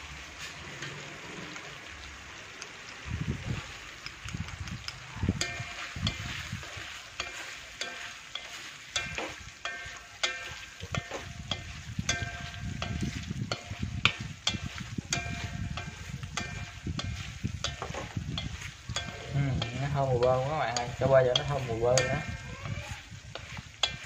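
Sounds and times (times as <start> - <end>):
sauce sizzling: 0.0 - 24.0
chopsticks knocking metal wok: 4.0 - 24.0.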